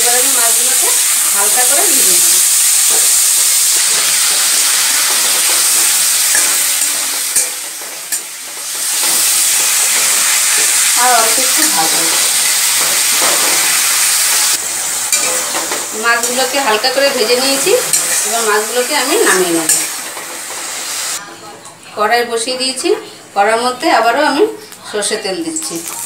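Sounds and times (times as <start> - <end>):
prawns sizzling in hot oil: 0.0 - 21.3, 25.6 - 26.0.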